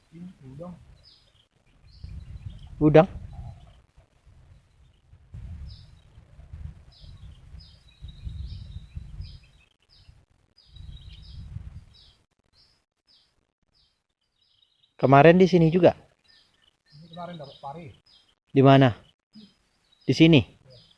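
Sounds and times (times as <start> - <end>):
small bird chirping: 0.0 - 20.9.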